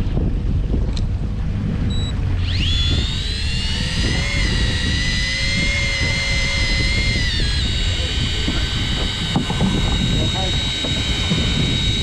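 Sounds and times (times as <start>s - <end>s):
boat engine rumbling: 0.0s - 12.0s
wind rumble: 0.0s - 12.0s
fishing reel motor whining: 1.8s - 12.0s.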